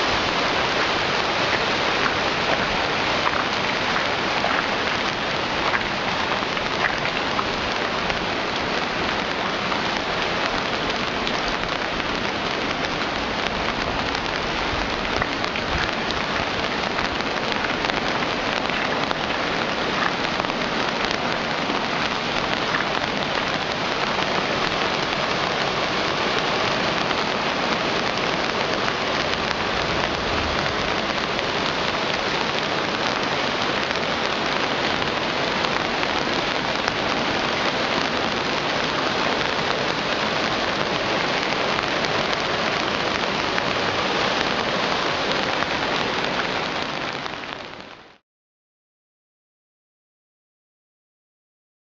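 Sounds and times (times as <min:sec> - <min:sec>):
rain falling on hard ground: 0:00.0 - 0:48.2
raindrops ticking: 0:00.1 - 0:48.2.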